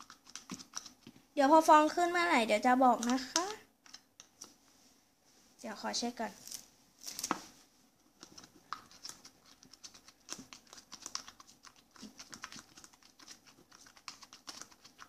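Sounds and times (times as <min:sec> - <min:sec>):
plastic spoon stirring foamy slime: 0:00.0 - 0:04.6, 0:06.4 - 0:15.0.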